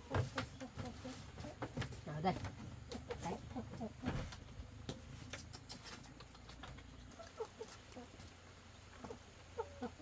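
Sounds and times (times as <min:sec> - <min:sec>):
poultry clucking: 0:00.0 - 0:10.0.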